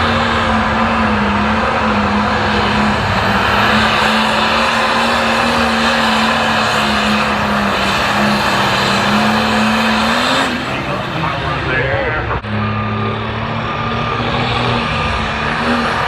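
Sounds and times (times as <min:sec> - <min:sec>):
diesel engine running flat out: 0:00.0 - 0:16.0.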